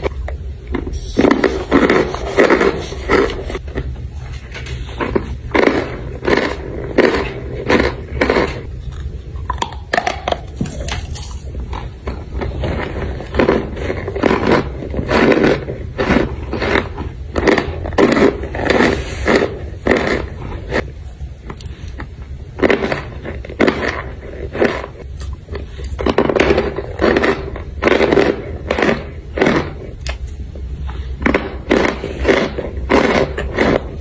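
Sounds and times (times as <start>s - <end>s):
crunchy chewing: 4.6s - 20.9s, 21.5s - 34.0s.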